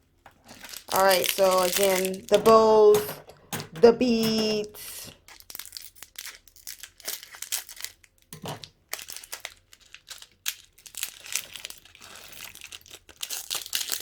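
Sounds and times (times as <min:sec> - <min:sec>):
plastic packaging crinkling: 0:00.3 - 0:14.0.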